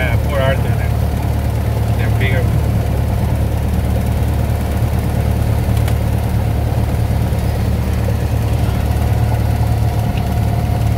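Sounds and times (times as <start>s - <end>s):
airplane engine and propeller drone: 0.0s - 10.9s.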